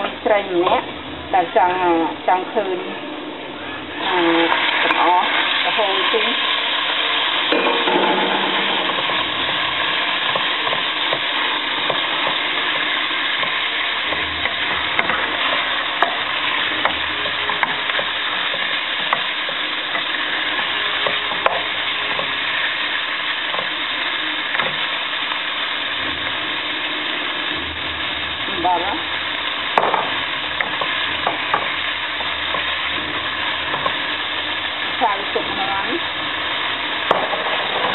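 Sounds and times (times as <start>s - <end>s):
beef sizzling in a frying pan: 0.0s - 37.9s.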